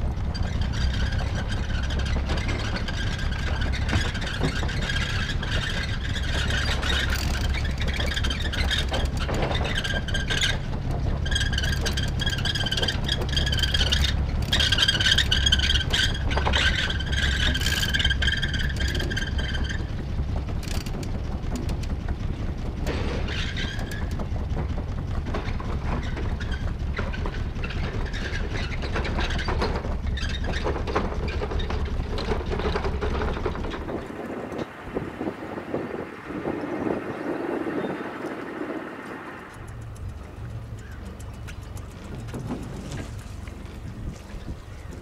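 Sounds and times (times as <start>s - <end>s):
boat engine idling: 0.0s - 45.0s.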